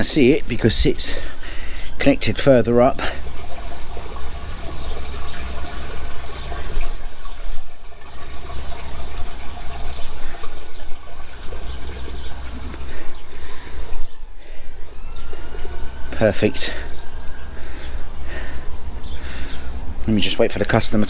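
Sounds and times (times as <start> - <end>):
water flowing down drain pipe: 0.0 - 21.0.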